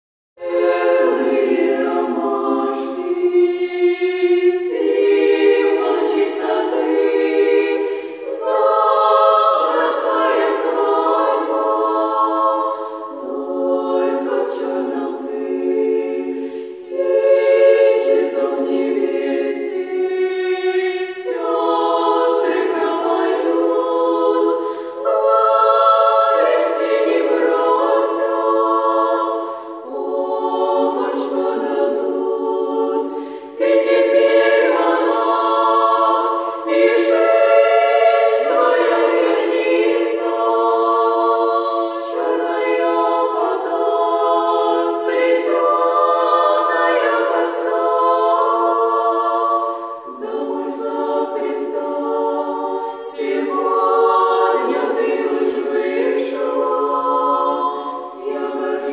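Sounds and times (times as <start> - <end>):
women's choir singing a cappella: 0.4 - 58.9.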